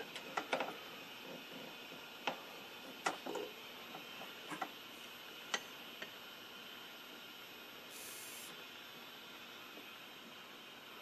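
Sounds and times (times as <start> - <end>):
low steady hiss: 2.1 - 11.0.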